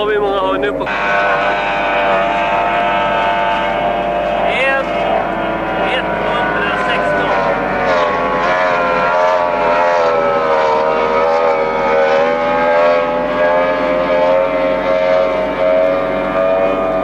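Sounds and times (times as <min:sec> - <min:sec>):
powerboat outboard motors racing: 0:00.0 - 0:17.0.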